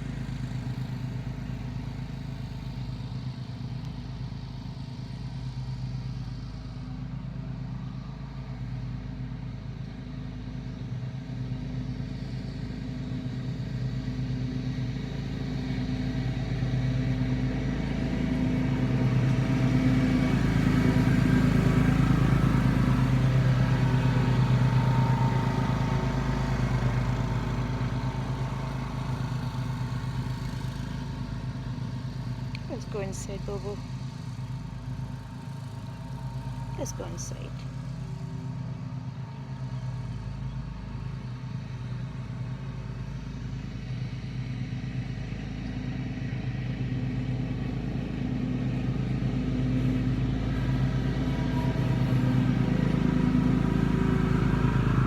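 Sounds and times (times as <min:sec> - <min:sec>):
motor engine humming: 0:00.0 - 0:55.0.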